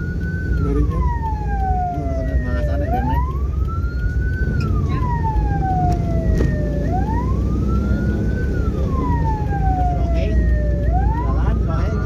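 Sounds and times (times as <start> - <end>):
engine and road rumble: 0.0 - 12.0
vehicle siren wailing: 0.0 - 12.0.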